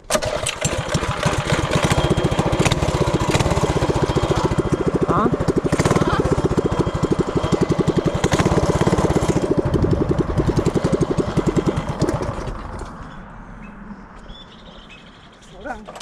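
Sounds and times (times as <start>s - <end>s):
small engine running: 0.1s - 13.2s.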